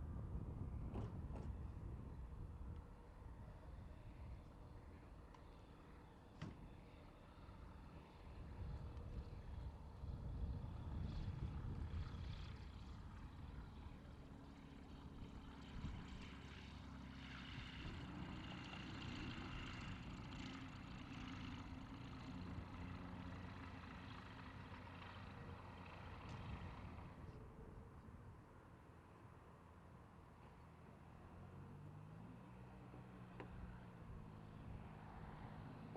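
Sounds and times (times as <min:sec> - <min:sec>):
propeller aircraft engine running: 0:00.0 - 0:31.8.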